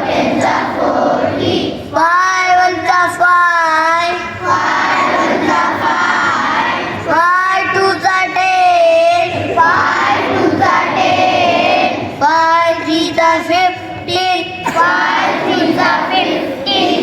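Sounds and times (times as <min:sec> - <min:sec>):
child singing: 0:00.0 - 0:17.0.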